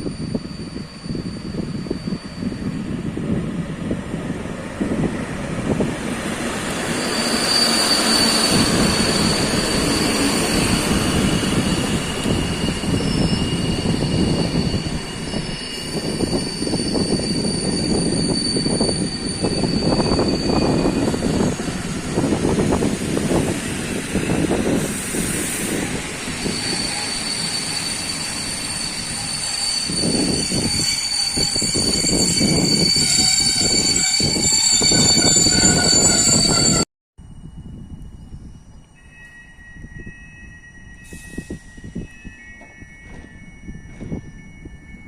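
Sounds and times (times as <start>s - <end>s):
train wheels rumbling on rail: 0.0s - 36.8s, 40.8s - 45.0s.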